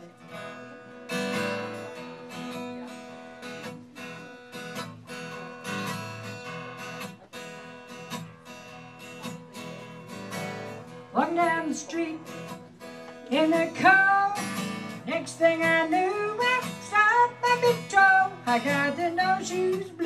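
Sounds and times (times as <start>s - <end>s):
acoustic guitar strumming blues: 0.0s - 20.0s.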